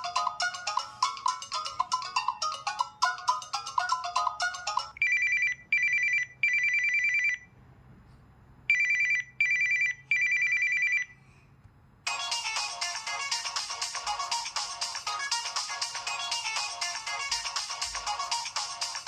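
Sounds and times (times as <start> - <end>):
melodic phone ringtone: 0.0 - 7.4, 8.7 - 11.1, 12.1 - 19.0.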